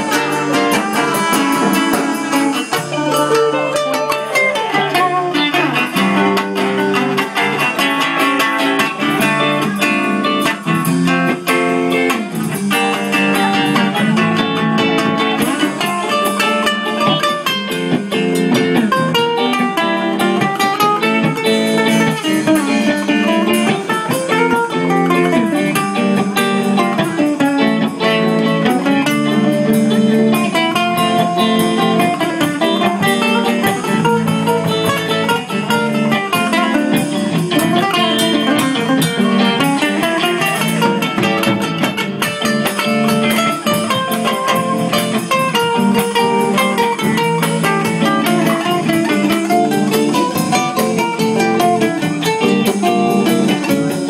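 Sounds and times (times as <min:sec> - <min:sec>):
acoustic guitar: 0:00.0 - 0:54.0
small plucked string instrument: 0:00.0 - 0:54.0.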